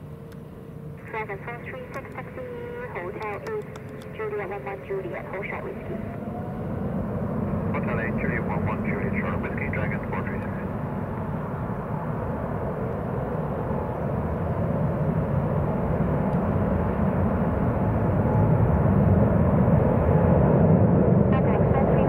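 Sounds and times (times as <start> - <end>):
jet engines rumbling at takeoff: 0.0 - 22.0.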